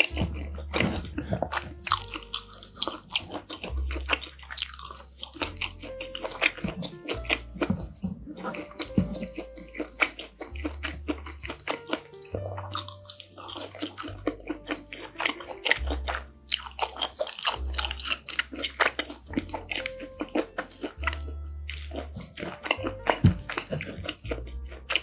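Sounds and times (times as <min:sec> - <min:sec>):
background music: 0:00.0 - 0:25.0
chewing crunchy food: 0:00.0 - 0:25.0.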